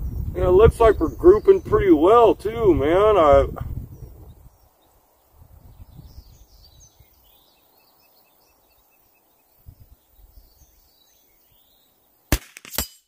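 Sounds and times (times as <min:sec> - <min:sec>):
faint birdsong: 0:00.0 - 0:12.4.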